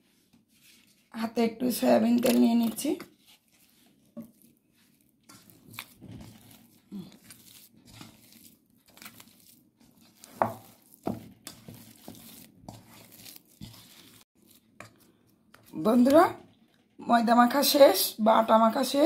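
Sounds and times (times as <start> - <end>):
hand kneading dough squishing: 0.0 - 1.2, 1.8 - 16.9.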